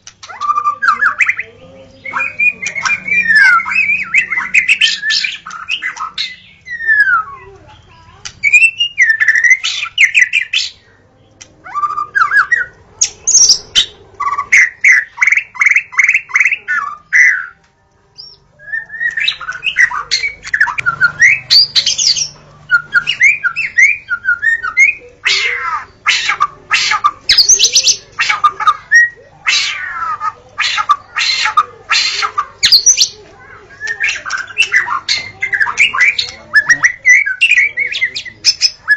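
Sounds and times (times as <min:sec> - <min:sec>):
bird singing whistled phrases: 0:00.2 - 0:07.5, 0:08.4 - 0:10.8, 0:11.7 - 0:17.6, 0:18.2 - 0:38.9.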